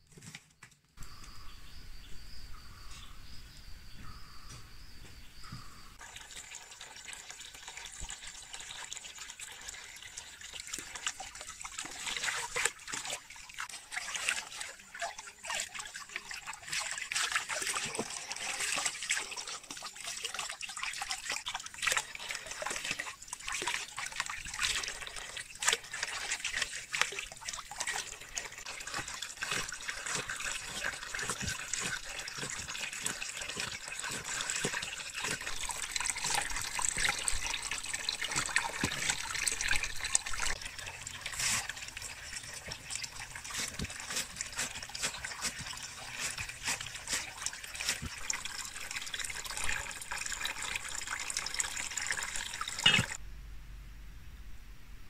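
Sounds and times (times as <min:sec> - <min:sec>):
water running and splashing: 0:06.0 - 0:53.2.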